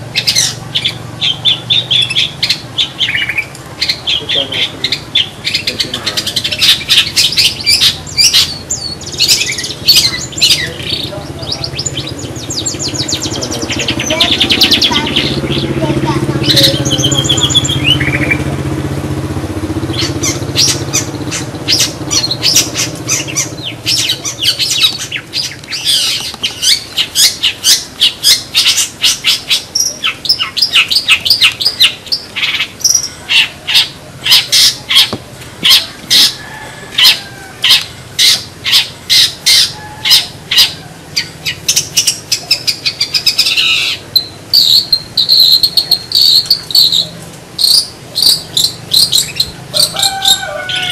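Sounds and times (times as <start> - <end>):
bird sharp repeated chirps: 0.0 - 18.5, 19.8 - 36.4, 37.0 - 50.9.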